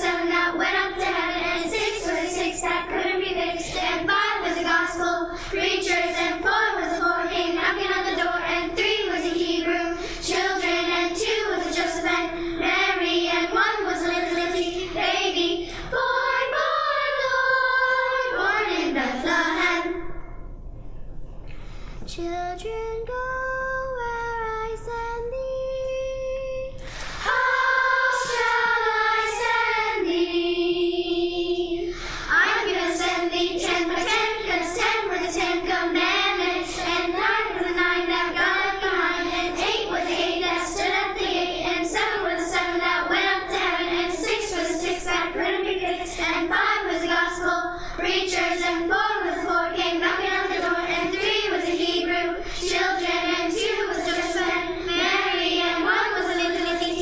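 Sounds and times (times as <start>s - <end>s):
youth choir singing: 0.0s - 20.3s, 26.8s - 57.0s.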